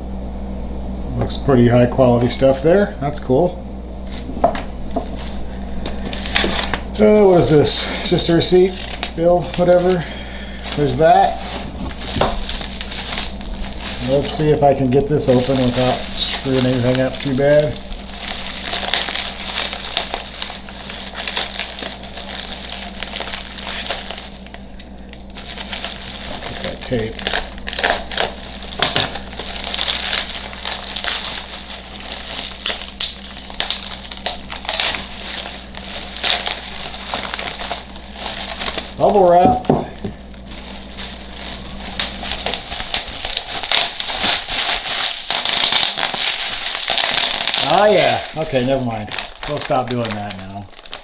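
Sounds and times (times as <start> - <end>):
bubble wrap crackling: 4.0 - 51.0.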